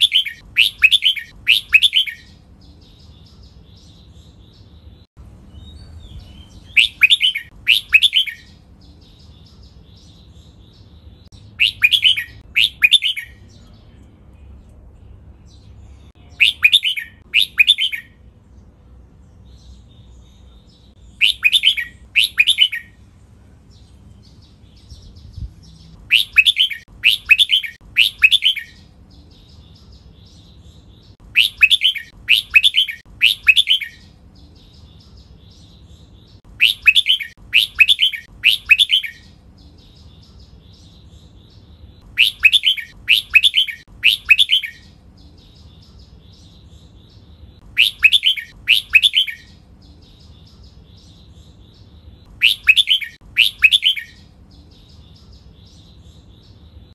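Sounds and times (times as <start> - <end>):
soft bird twittering: 0.0 - 18.3, 19.2 - 56.9.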